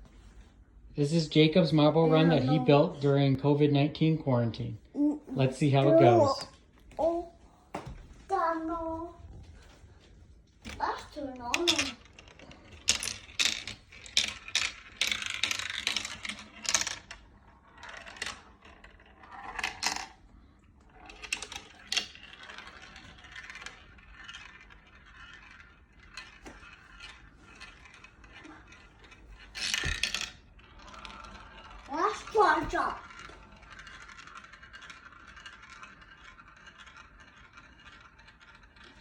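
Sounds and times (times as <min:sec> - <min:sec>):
marbles clattering and rolling: 0:01.1 - 0:03.6, 0:05.4 - 0:09.8, 0:10.6 - 0:39.0.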